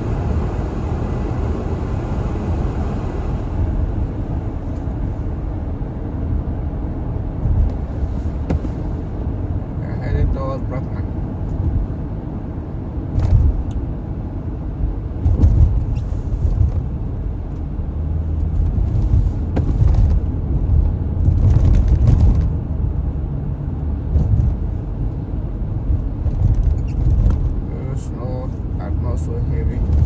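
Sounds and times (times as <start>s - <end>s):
car road noise rumble: 0.0s - 30.0s.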